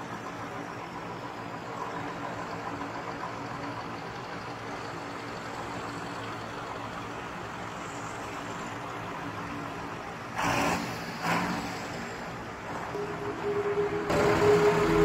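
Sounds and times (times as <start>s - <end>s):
tractor engines droning: 0.0s - 15.0s.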